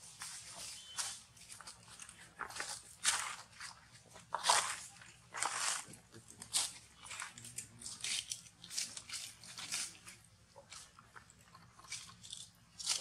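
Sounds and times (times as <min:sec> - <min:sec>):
monkey chewing crunchy food: 0:01.4 - 0:13.0.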